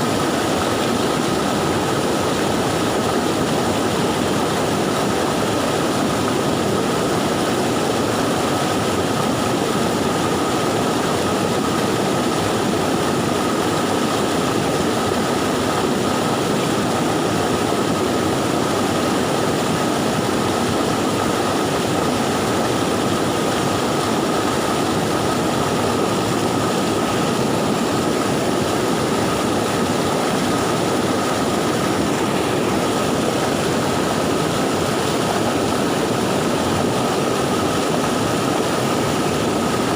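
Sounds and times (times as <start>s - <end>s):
river rushing loudly: 0.0s - 39.9s.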